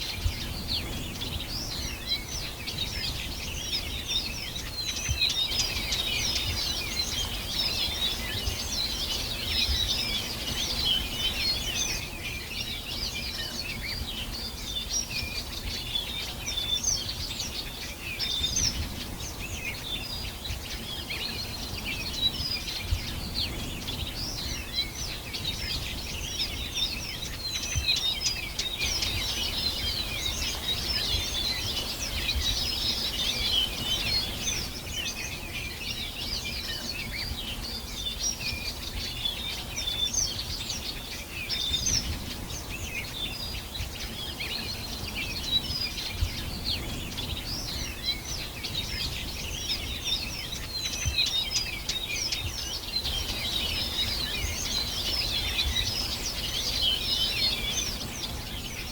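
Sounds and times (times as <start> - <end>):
small birds chirping and singing: 0.0 - 58.9.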